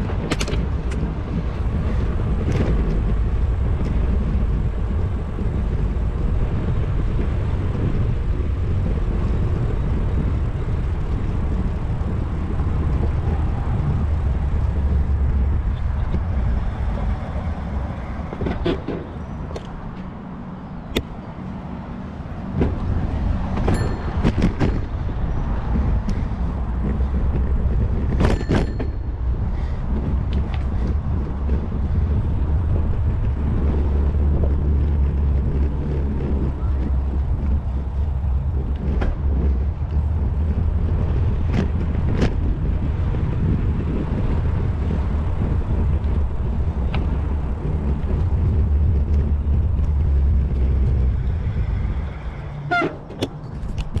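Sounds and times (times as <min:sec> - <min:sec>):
road noise: 0:00.0 - 0:54.0
wind buffeting: 0:00.0 - 0:54.0.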